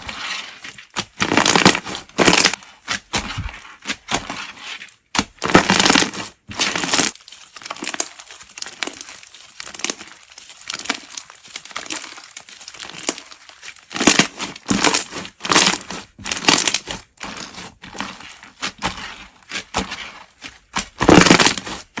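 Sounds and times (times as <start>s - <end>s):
slime crinkling and crackling: 0.0s - 22.0s.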